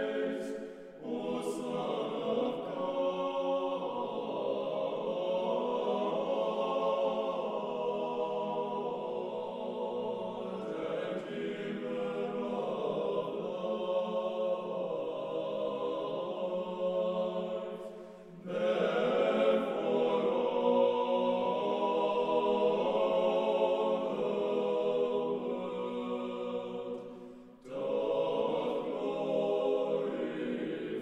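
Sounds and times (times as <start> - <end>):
choir singing chant: 0.0 - 31.0.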